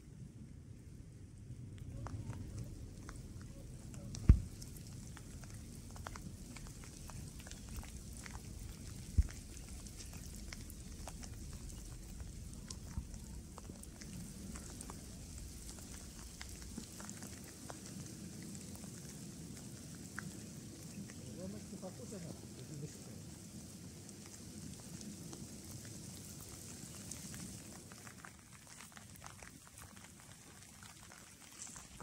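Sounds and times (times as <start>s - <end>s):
raindrops ticking: 1.4s - 32.0s.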